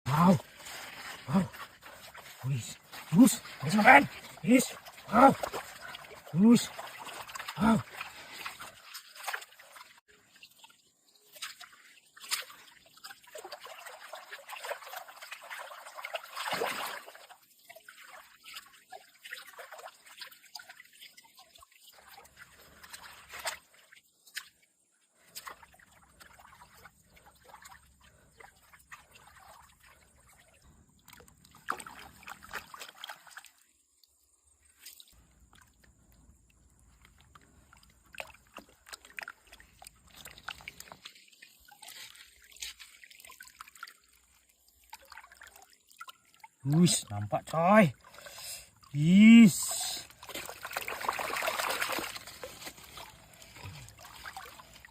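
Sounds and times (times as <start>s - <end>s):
water trickling and sloshing: 0.0s - 54.9s
small sharp splashes: 0.1s - 47.2s, 47.8s - 49.0s, 49.6s - 54.9s.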